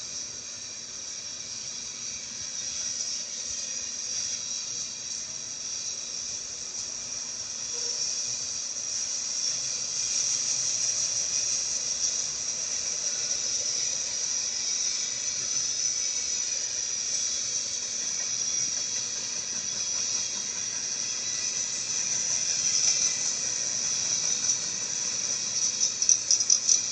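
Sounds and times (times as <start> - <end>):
train cars rolling on rails: 0.0 - 26.9.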